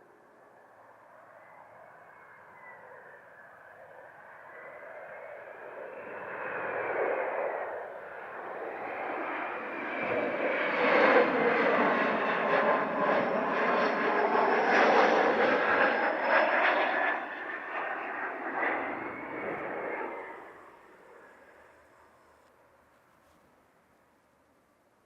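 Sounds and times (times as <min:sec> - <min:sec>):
jet aircraft passing: 0:00.0 - 0:22.9.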